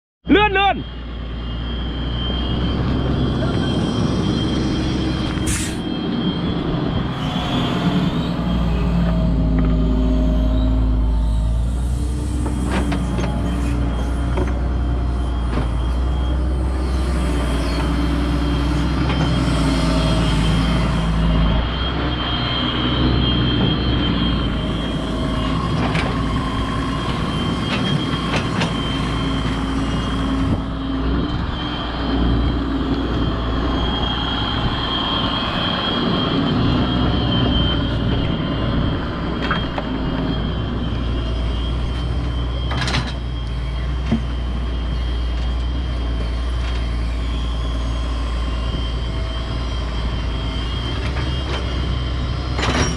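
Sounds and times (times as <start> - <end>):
high whine: 0.2 - 52.9
excavator diesel engine digging: 1.3 - 52.9.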